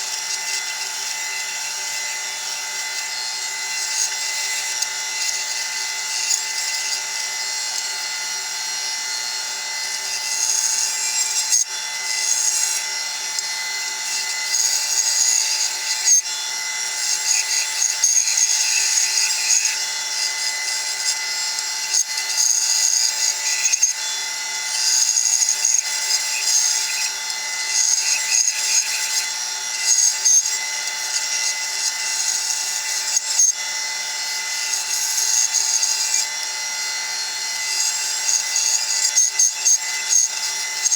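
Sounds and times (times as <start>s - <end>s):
saw blade cutting wood: 0.0s - 40.9s.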